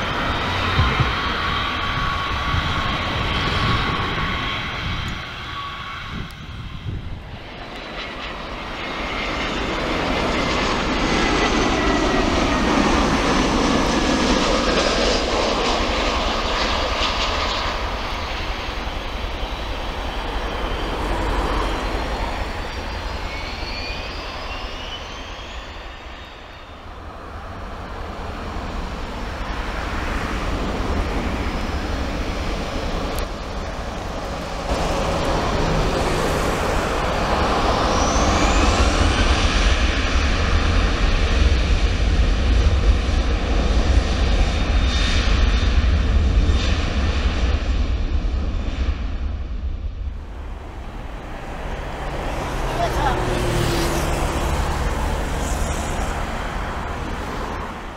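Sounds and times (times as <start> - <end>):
jet engines roaring with whine: 0.0 - 57.9.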